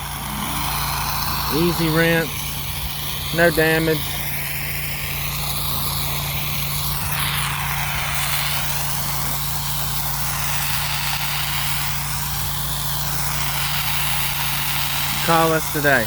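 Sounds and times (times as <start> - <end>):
engine and pump humming: 0.0 - 16.0
water spray hissing: 0.0 - 16.0.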